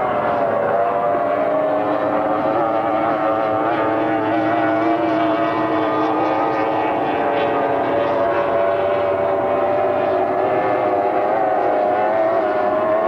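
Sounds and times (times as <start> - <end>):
racing boat engines high-revving: 0.0 - 13.0.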